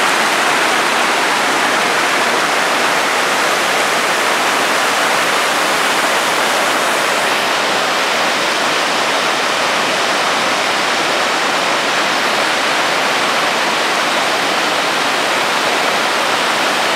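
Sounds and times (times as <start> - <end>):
mountain torrent roaring: 0.0 - 16.9.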